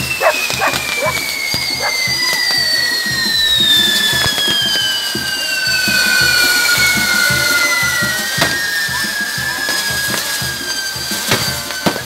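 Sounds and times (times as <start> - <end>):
firework crackling and popping: 0.0 - 12.0
firework whistles sliding down: 0.0 - 12.0.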